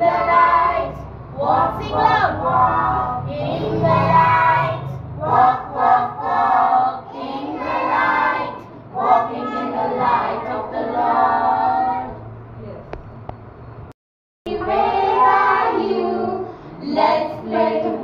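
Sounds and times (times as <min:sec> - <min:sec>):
children singing together: 0:00.0 - 0:12.1, 0:14.5 - 0:18.0.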